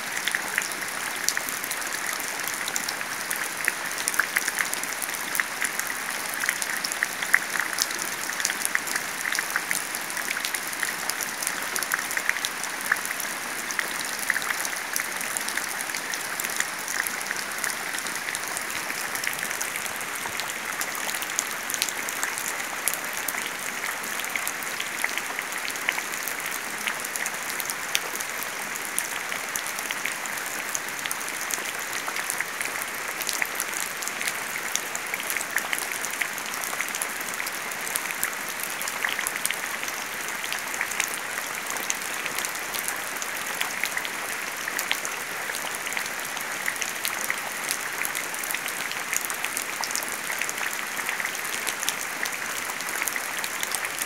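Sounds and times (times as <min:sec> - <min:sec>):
rain falling into puddle: 0:00.0 - 0:54.0.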